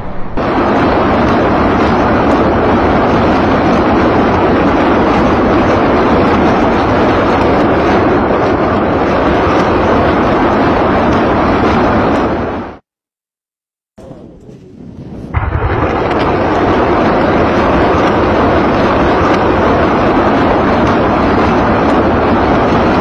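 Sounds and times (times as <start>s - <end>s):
rockets launching: 0.0s - 12.8s, 14.1s - 23.0s.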